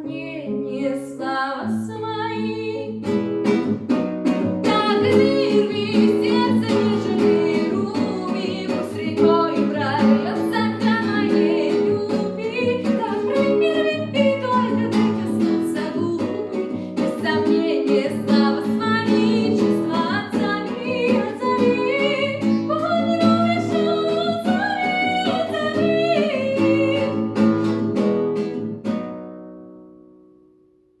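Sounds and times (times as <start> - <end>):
woman singing: 0.0 - 3.2, 4.6 - 27.7
strummed acoustic guitar: 2.3 - 30.8.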